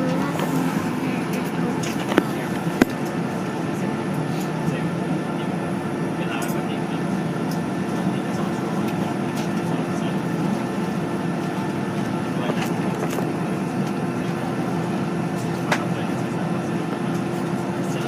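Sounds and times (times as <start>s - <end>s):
jet airliner cabin drone: 0.0s - 18.0s.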